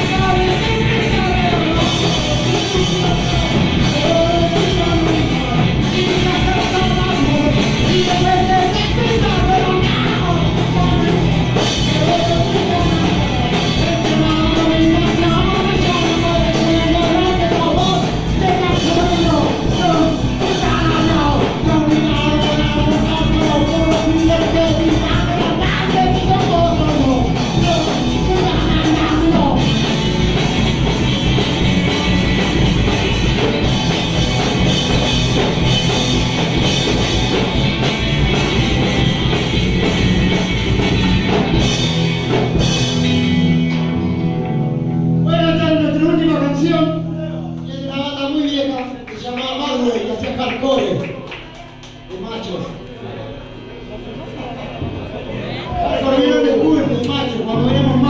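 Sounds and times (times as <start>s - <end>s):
punk rock band playing: 0.0s - 49.2s, 53.6s - 58.0s.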